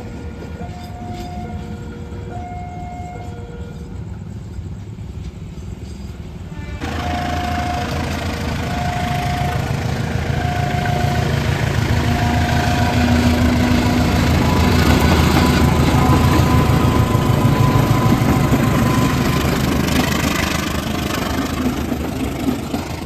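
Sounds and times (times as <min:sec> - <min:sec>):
diesel train engine rumble: 0:00.0 - 0:23.0.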